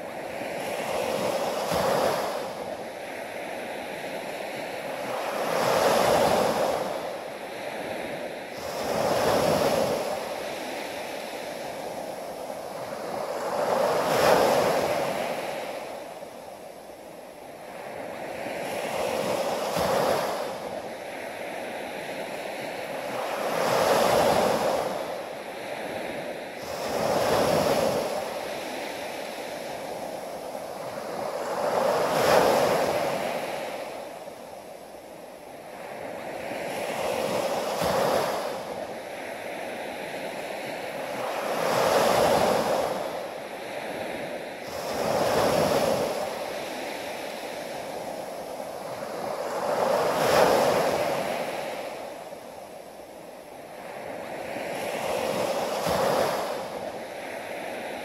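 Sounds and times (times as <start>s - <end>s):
surf washing up a beach: 0.0s - 58.0s.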